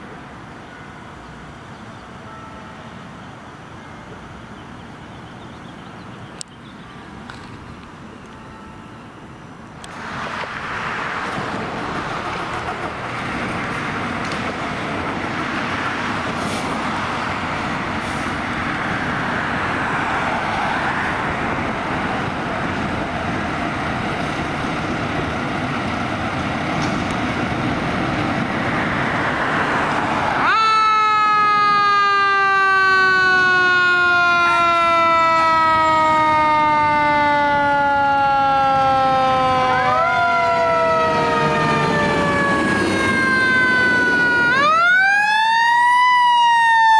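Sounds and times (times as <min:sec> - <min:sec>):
heavy vehicle and road noise: 0:00.0 - 0:46.9.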